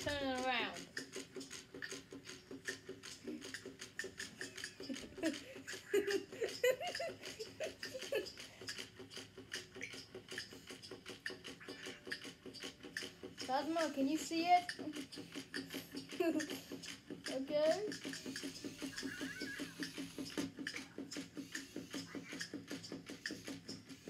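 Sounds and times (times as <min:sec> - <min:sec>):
walking toy motor clicking: 0:00.0 - 0:24.0.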